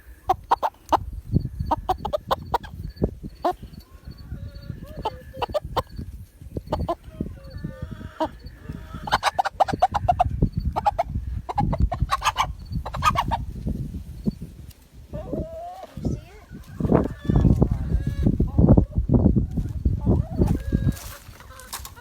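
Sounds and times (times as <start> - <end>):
chicken clucking and squawking: 0.0 - 13.6, 15.1 - 22.0.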